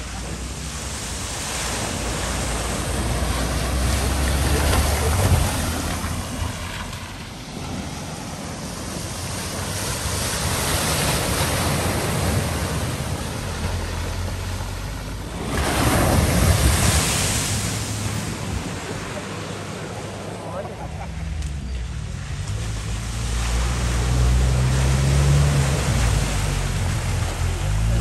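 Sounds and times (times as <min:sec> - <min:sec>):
vehicle splashing through water: 0:00.0 - 0:28.0.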